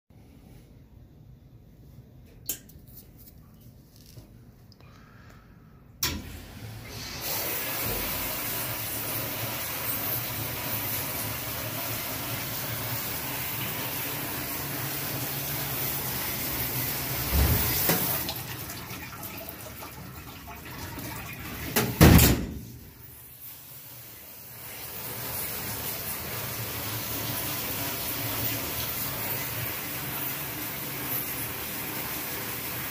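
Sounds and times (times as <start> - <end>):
dishwasher water spray rushing: 6.2 - 32.9.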